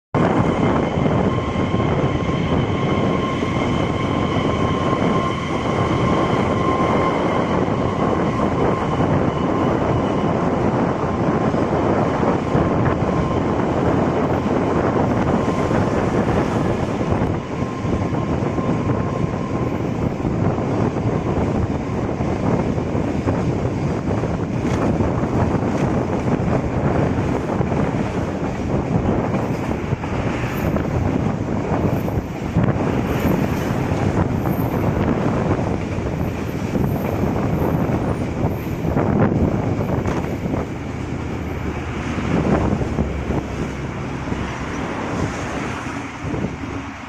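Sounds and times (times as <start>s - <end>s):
train wheels rumbling on rails: 0.1s - 47.0s.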